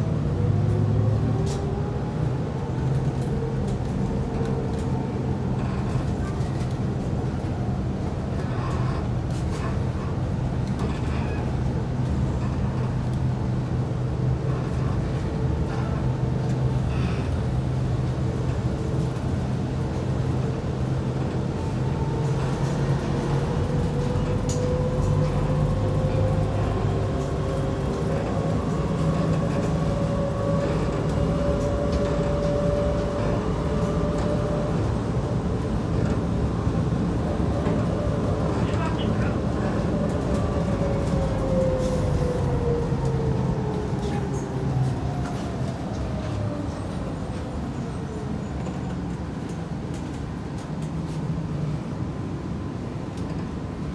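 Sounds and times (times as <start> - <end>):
train interior rumble: 0.0 - 53.9.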